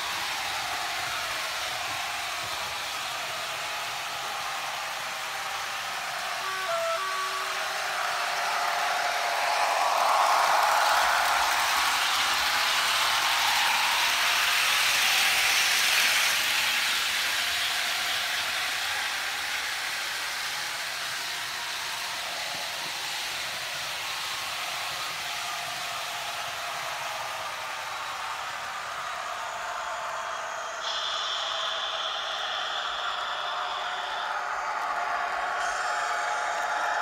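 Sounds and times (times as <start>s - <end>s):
model train diesel engine sound: 0.0s - 37.0s
model train wheels rolling on track: 0.0s - 37.0s.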